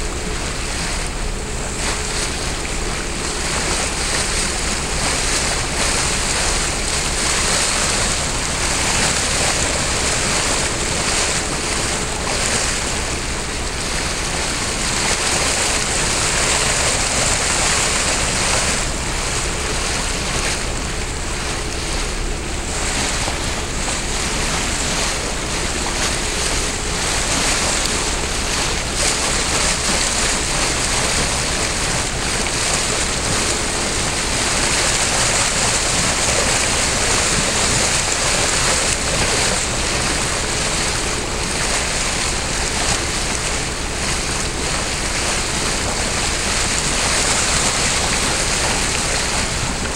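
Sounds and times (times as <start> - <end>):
rushing open water: 0.0 - 49.9.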